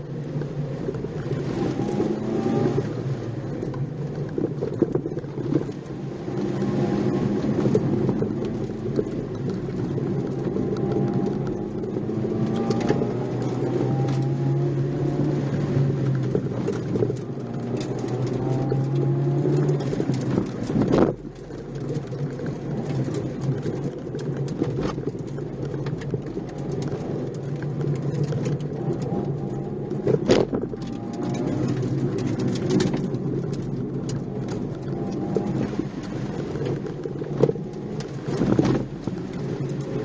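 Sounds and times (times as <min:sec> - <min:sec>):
car engine from inside cabin: 0:00.0 - 0:40.0.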